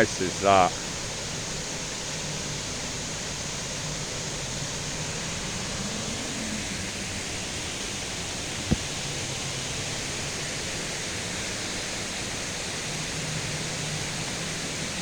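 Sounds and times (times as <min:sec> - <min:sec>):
rain and running water hiss: 0:00.0 - 0:15.0.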